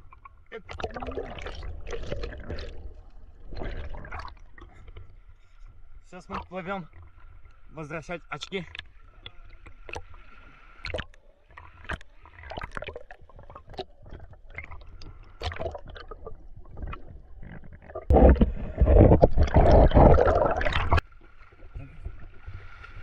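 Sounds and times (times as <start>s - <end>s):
water splashing from swimming: 0.0s - 5.0s, 8.6s - 23.0s.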